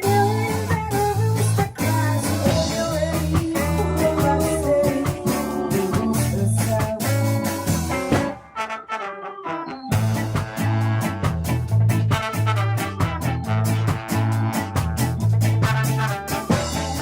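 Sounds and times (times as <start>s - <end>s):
ska band playing: 0.0s - 17.0s.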